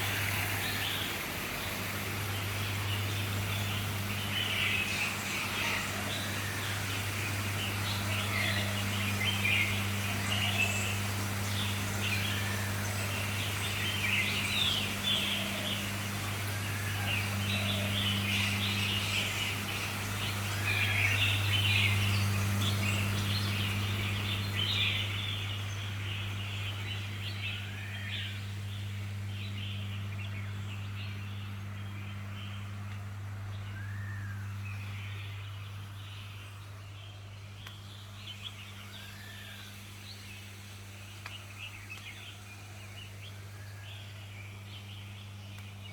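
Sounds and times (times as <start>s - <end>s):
low steady hum: 0.0s - 45.9s
small birds chirping: 0.0s - 45.9s.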